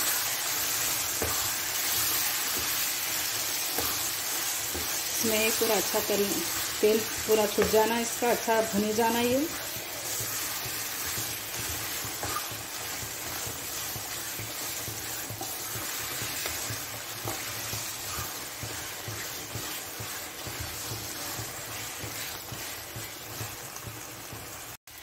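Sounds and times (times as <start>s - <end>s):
spatula scraping a pan: 0.0s - 23.8s
meat sizzling in oil: 0.0s - 25.0s.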